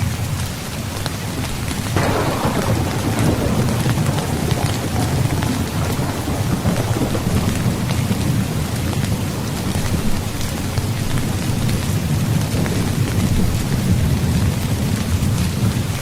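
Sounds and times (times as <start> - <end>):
heavy rain falling: 0.0 - 16.0
low thunder rumble: 1.9 - 16.0.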